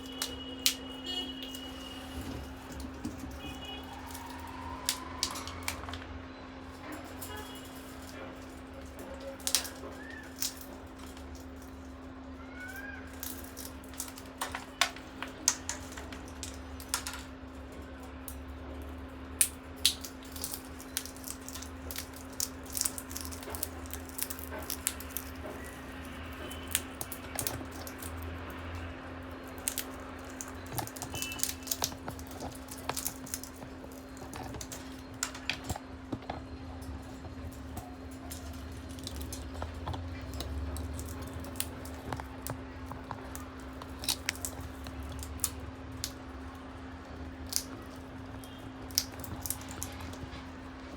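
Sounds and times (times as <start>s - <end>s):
parrots cracking peanut shells: 0.0s - 50.9s.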